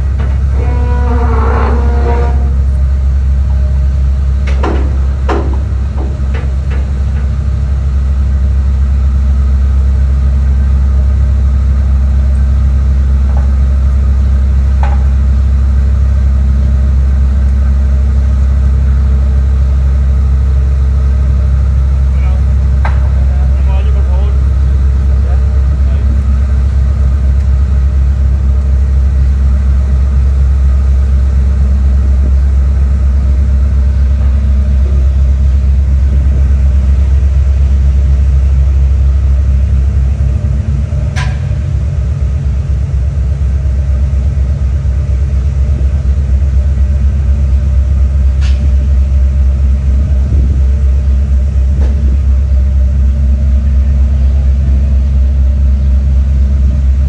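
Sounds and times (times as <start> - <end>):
ferry engines droning: 0.0 - 57.0.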